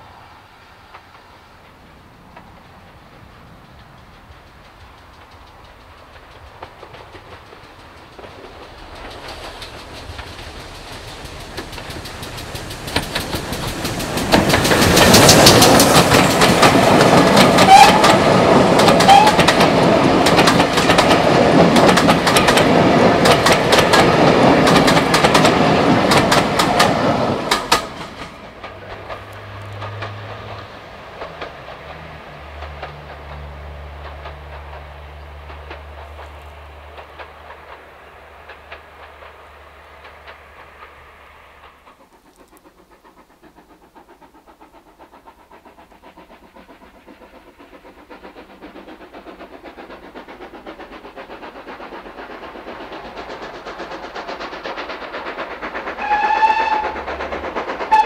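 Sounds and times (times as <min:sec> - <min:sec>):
train wheels clicking over rail joints: 0:00.2 - 0:58.0.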